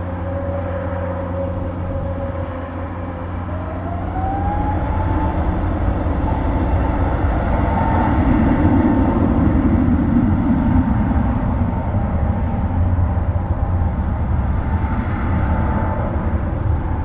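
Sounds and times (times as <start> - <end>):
jet engine deep rumble: 0.0 - 17.0
jet engine whine: 0.0 - 17.0.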